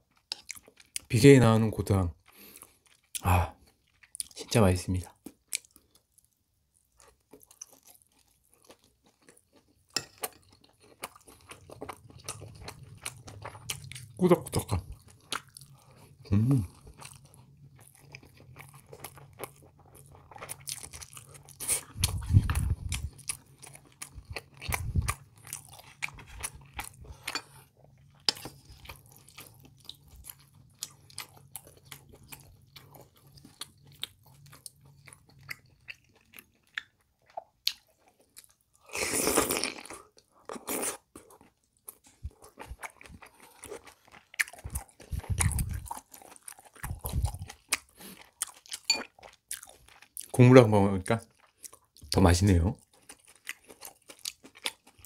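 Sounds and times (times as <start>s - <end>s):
wet chewing and smacking: 0.0s - 1.1s, 2.1s - 55.0s.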